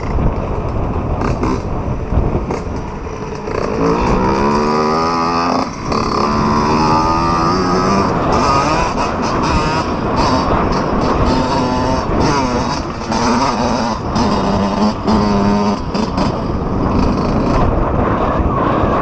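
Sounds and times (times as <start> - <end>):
wind: 0.0 - 19.0
dirt bike engine revving: 1.2 - 19.0.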